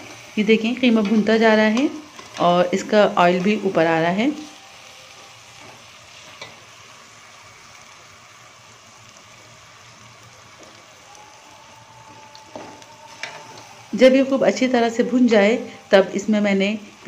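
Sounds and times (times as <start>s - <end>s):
minced meat sizzling in oil: 0.0s - 17.0s.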